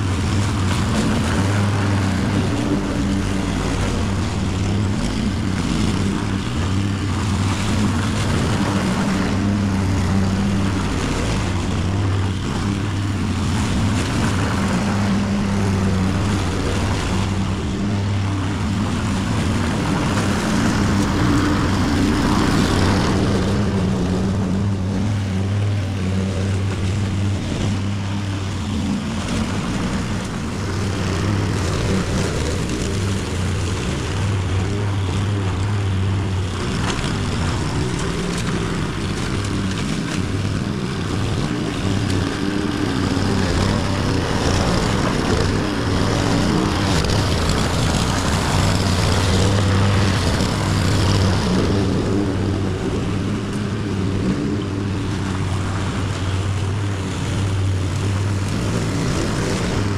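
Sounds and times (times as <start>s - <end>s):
lawn mower engine hum: 0.0s - 59.9s.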